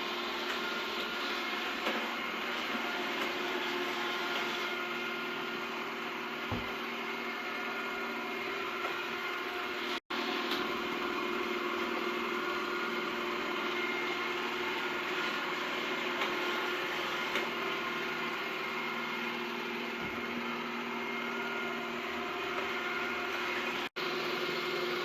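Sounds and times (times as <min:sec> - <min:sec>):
robot vacuum running: 0:00.0 - 0:25.0.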